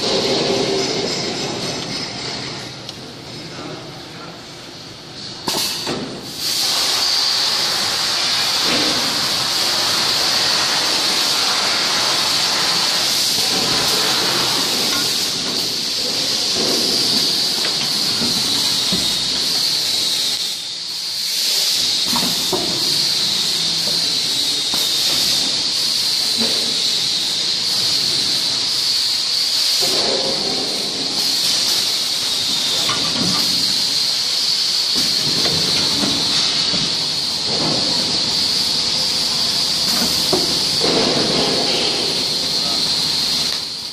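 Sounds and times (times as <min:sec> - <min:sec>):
shrink-wrapping machine hissing: 0:05.2 - 0:43.9.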